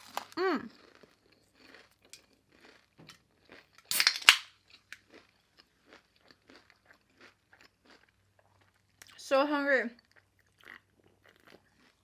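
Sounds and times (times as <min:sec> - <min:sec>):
chewing: 0:00.0 - 0:04.0, 0:04.7 - 0:09.2, 0:10.0 - 0:12.0
crunch of biting onion ring: 0:00.0 - 0:09.1, 0:10.0 - 0:12.0.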